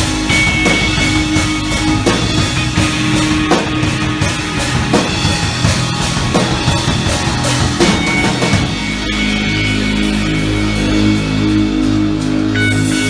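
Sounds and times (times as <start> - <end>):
drum kit beat: 0.0 - 13.0
rock band playing live: 0.0 - 13.0.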